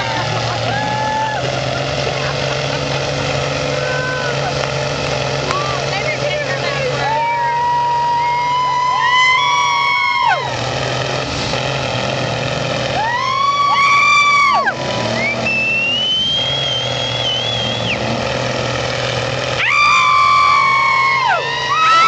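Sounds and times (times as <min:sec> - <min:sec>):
truck engine drone in mud: 0:00.0 - 0:22.0.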